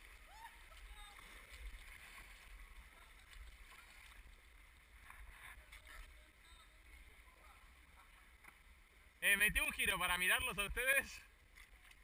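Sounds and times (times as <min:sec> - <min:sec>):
paddle splashes: 0:00.0 - 0:09.7, 0:10.7 - 0:12.0
faint water lapping: 0:00.0 - 0:12.0.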